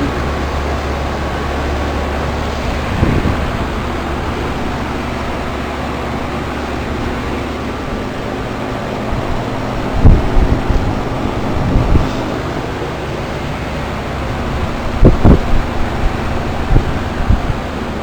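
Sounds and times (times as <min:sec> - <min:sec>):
heat pump fan running: 0:00.0 - 0:18.0.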